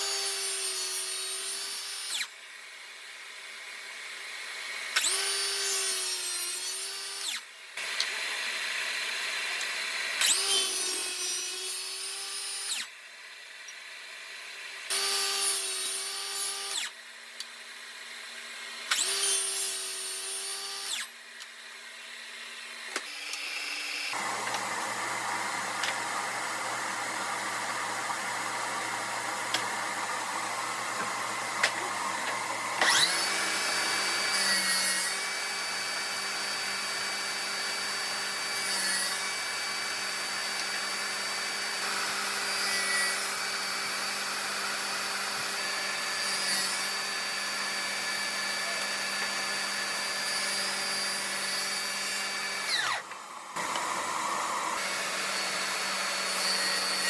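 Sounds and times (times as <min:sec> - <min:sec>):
power tool motor whining: 0:06.6 - 0:13.0, 0:13.6 - 0:57.0.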